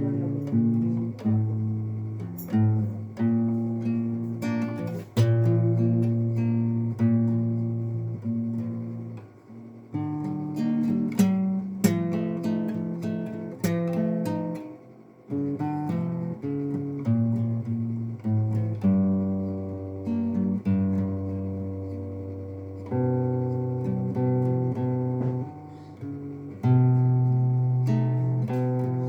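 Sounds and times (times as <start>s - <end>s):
acoustic guitar strummed and picked: 0.0s - 29.0s.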